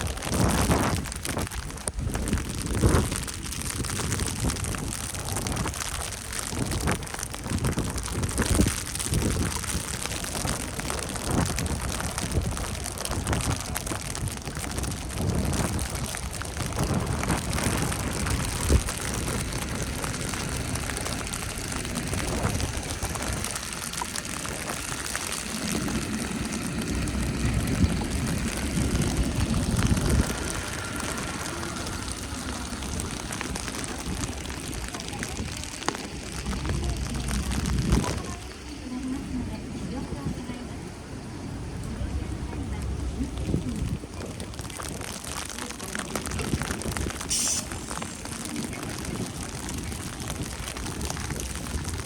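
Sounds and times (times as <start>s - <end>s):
low rumble: 0.0s - 52.0s
wet snow falling: 0.0s - 52.0s.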